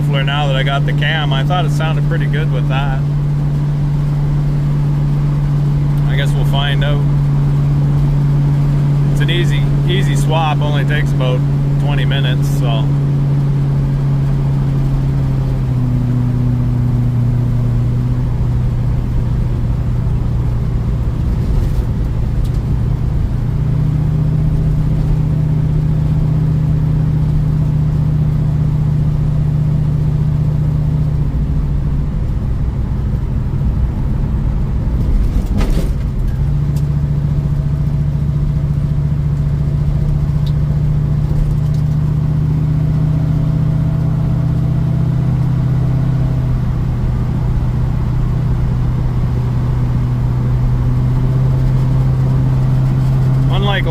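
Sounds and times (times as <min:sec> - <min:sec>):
loud car engine driving: 0:00.0 - 0:53.9.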